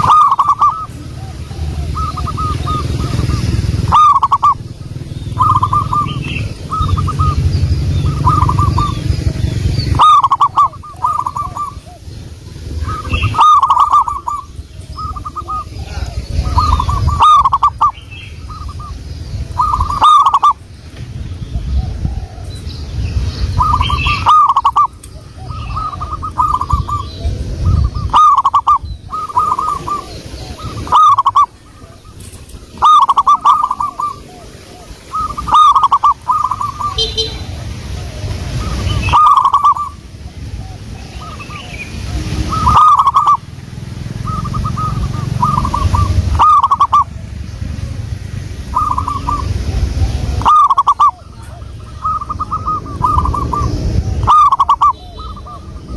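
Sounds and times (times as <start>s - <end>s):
dove cooing: 0.0s - 20.7s, 21.5s - 22.6s, 23.6s - 55.9s.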